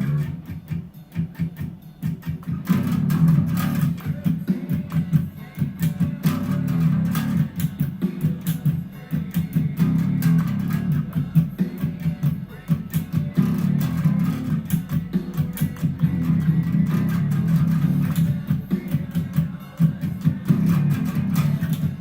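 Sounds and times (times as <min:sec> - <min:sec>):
electric bass guitar: 0:00.0 - 0:22.0.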